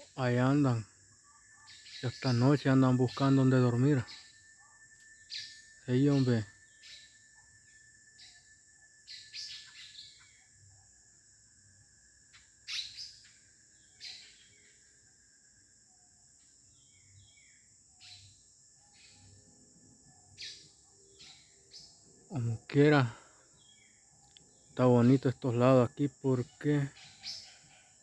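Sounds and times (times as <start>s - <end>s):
bird chirps: 0.0s - 10.9s, 11.7s - 15.1s, 15.8s - 28.0s
cicadas droning: 0.0s - 28.0s.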